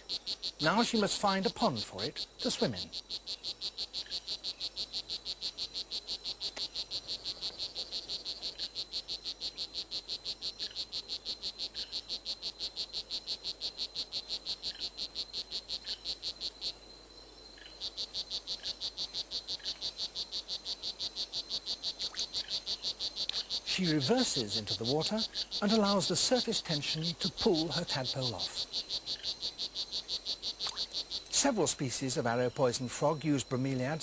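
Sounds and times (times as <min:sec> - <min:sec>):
frog calling in rapid pulses: 0:00.0 - 0:16.9, 0:17.5 - 0:34.0.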